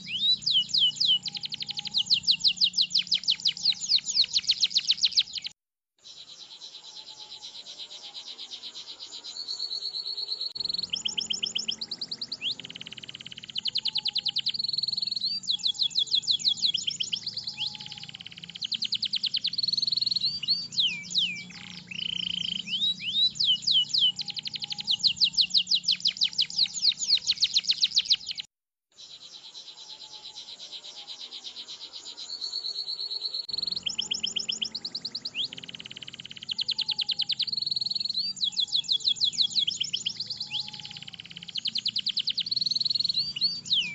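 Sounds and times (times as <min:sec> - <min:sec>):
canary singing: 0:00.0 - 0:28.5, 0:29.4 - 0:43.9.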